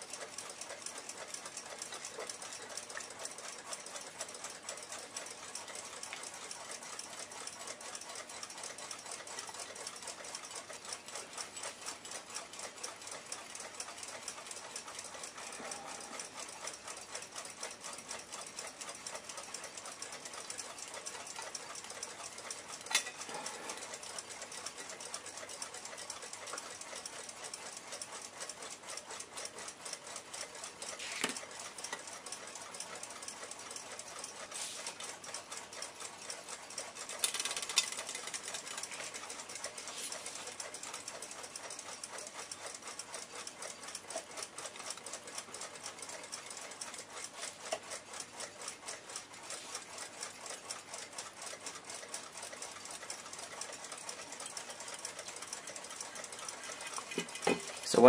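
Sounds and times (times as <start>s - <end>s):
clock ticking rapidly: 0.0s - 58.0s.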